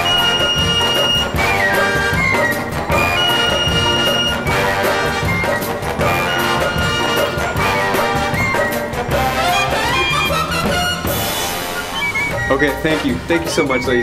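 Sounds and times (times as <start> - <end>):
jazzy big band music: 0.0 - 14.0.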